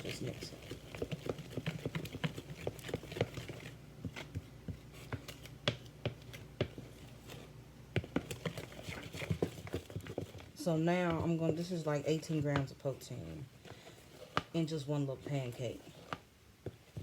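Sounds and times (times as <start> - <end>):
utensil stirring batter in bowl: 0.0 - 17.0.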